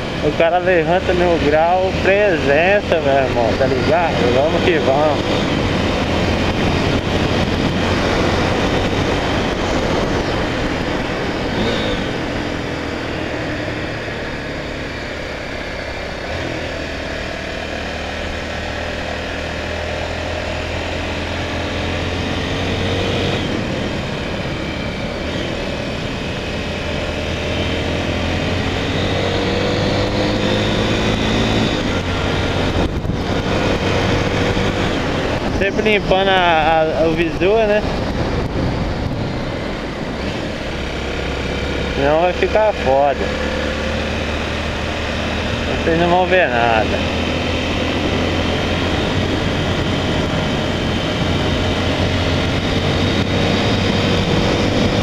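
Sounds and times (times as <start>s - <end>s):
motorcycle engine accelerating: 0.0s - 55.0s
road and wind noise: 0.0s - 55.0s.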